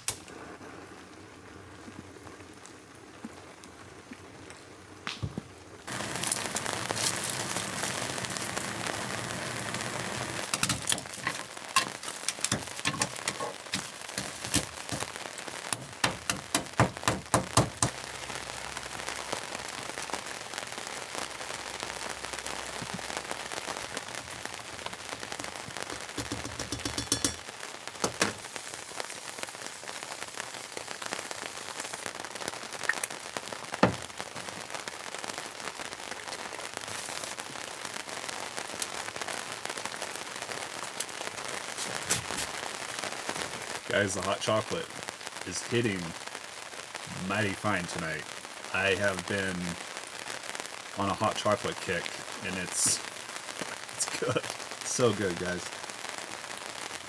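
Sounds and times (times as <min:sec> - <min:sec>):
rain hissing: 0:00.0 - 0:57.0
raindrops tapping hard surface: 0:01.9 - 0:57.0.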